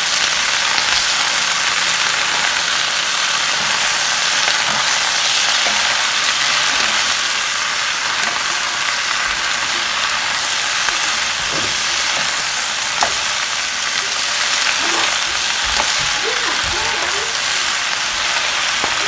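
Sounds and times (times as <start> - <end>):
vegetables sizzling in pan: 0.0 - 19.0.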